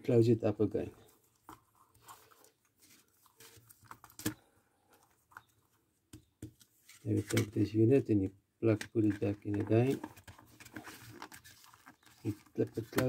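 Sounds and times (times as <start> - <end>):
small clicks and rustles: 1.0 - 7.5, 8.8 - 13.0.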